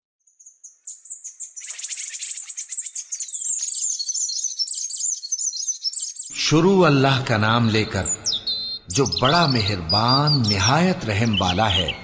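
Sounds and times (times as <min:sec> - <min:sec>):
small birds chirping and warbling: 0:00.2 - 0:12.0.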